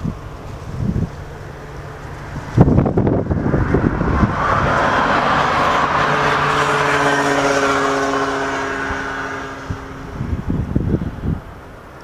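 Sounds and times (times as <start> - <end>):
jet engines at takeoff: 0.0 - 12.0
wind buffeting microphone: 0.0 - 12.0.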